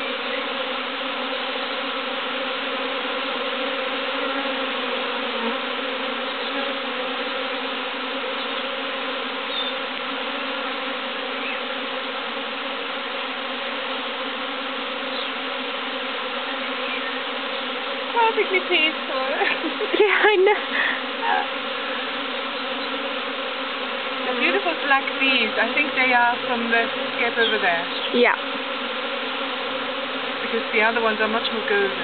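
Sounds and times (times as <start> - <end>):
bee swarm buzzing: 0.0 - 32.0.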